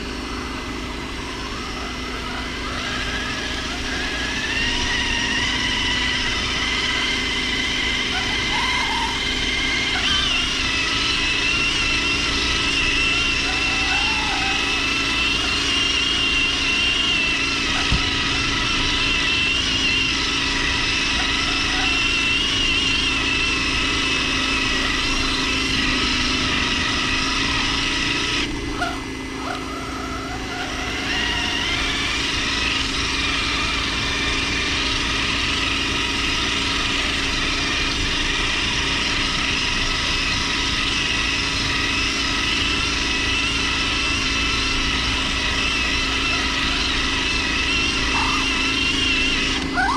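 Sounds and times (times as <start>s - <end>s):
electric motor and gears whining: 0.0s - 49.9s.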